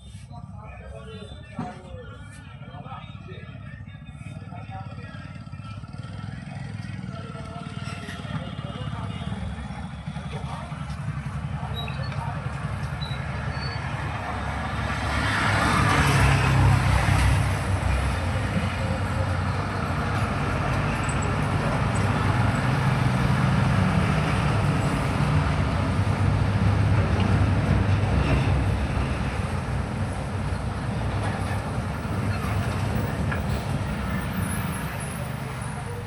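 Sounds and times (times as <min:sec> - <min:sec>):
low rumble of road traffic: 0:00.0 - 0:36.0.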